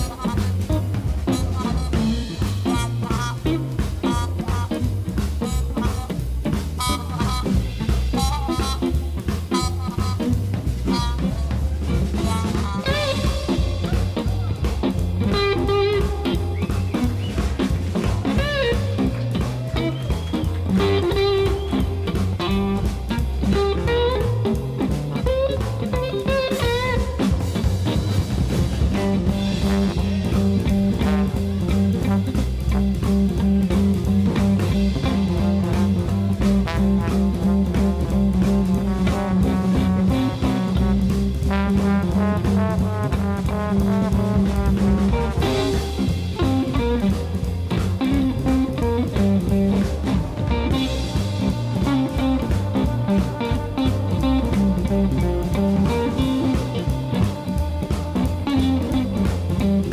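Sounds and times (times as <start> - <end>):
drum kit: 0.0 - 59.9
guitar playing bass and chords: 0.0 - 59.9
keyboards: 0.0 - 59.9.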